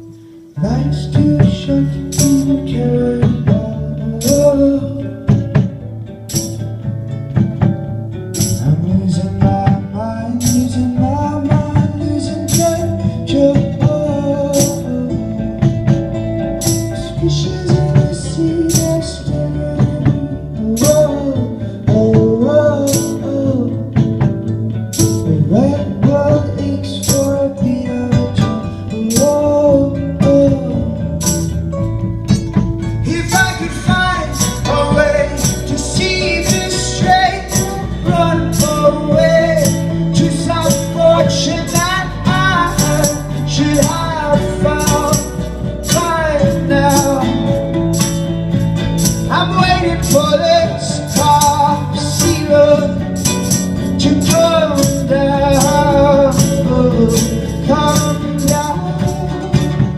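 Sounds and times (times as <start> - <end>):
bass: 0.0 - 59.9
rock band playing live: 0.0 - 59.9.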